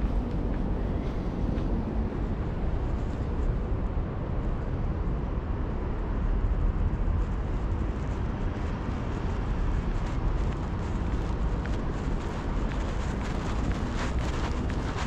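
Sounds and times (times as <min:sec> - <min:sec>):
outdoor street ambience rumble: 0:00.0 - 0:15.0.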